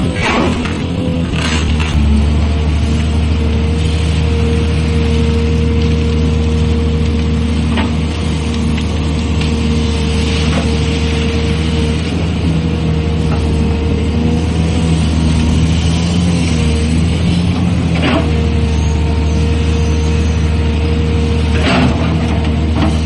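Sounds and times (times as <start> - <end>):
diesel engine running under load: 0.0 - 23.0
hydraulic whine: 0.0 - 23.0.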